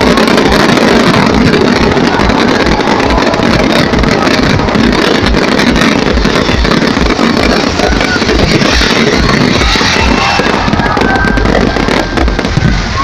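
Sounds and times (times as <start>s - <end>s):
fireworks barrage rumble: 0.0s - 13.0s
low fireworks thumps: 0.0s - 13.0s.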